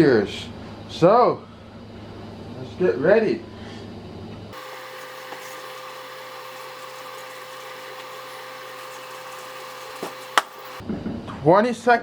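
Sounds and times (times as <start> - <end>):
steady mechanical hum: 0.0 - 11.4.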